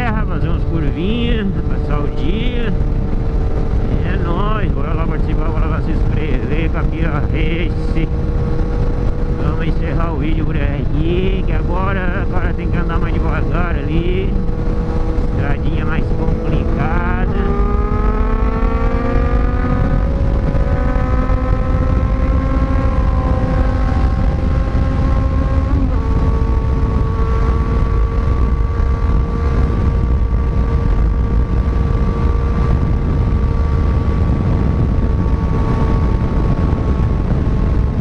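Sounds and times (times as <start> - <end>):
motorcycle engine running: 0.0 - 38.0
wind rushing over microphone: 0.0 - 38.0.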